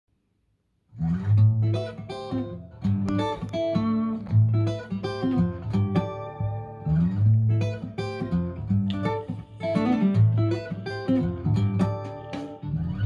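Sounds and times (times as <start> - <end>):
acoustic guitar picking: 1.0 - 13.0.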